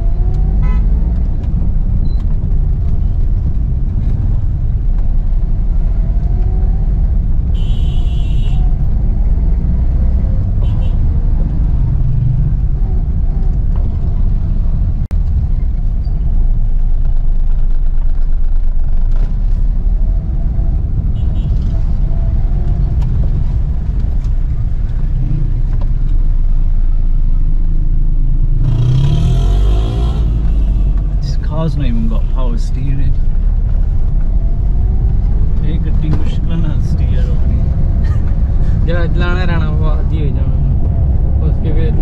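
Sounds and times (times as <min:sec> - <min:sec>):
car engine rumble in cabin: 0:00.0 - 0:28.8, 0:29.4 - 0:42.0
harsh engine of nearby traffic: 0:00.0 - 0:42.0.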